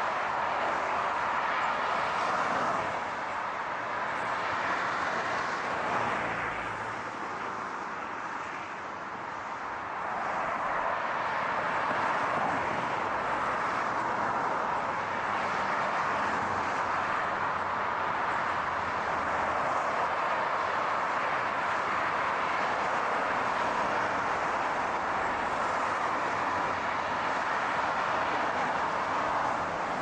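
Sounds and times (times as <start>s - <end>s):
road traffic rush: 0.0s - 30.0s.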